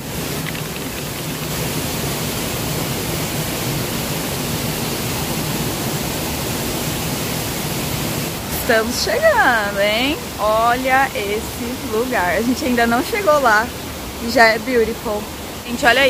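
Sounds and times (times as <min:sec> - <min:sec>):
river and waterfall rushing: 0:00.0 - 0:16.0.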